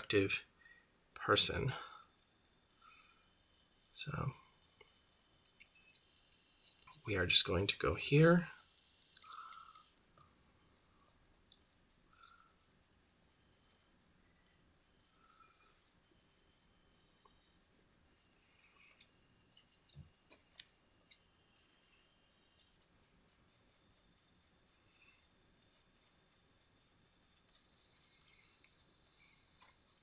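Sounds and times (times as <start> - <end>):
pencil scratching on paper: 3.2 - 5.9, 6.5 - 10.0, 10.7 - 30.0.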